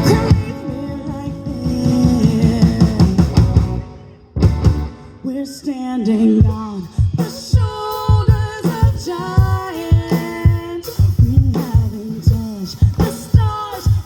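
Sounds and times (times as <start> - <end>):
person singing: 0.0 - 4.1, 5.1 - 14.0
live rock band playing: 0.0 - 5.6, 6.3 - 14.0
drums: 0.0 - 14.0
guitar: 0.0 - 14.0.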